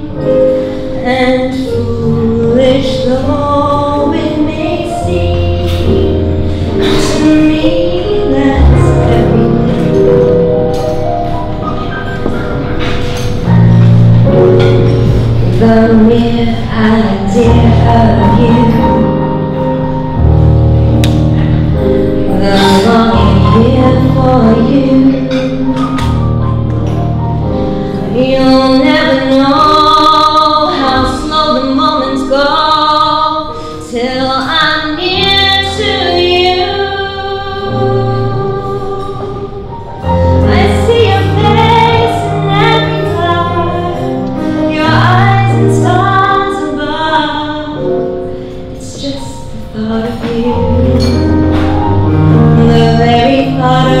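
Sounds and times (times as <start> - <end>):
woman singing into microphone: 0.0 - 11.1, 13.3 - 20.0, 22.1 - 54.0
instrumental accompaniment: 0.0 - 54.0.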